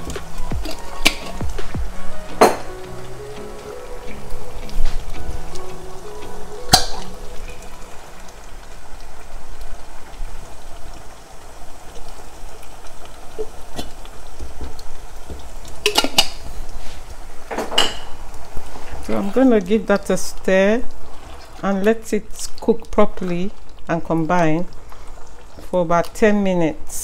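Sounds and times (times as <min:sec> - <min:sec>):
meat sizzling in a pot: 0:00.0 - 0:27.0.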